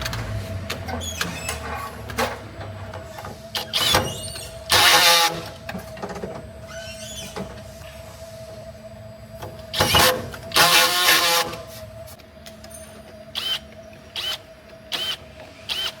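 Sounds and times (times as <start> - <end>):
machinery humming: 1.6 - 16.0.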